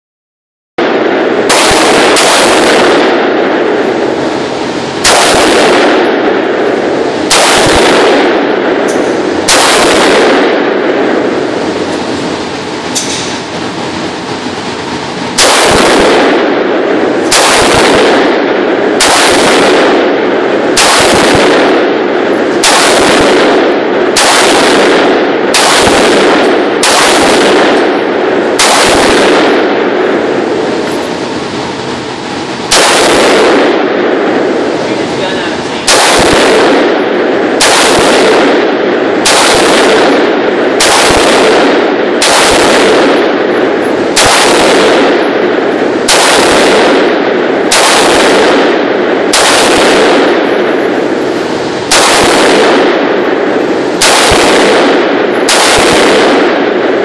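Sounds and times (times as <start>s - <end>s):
rifle shots echoing indoors: 0.8s - 57.0s.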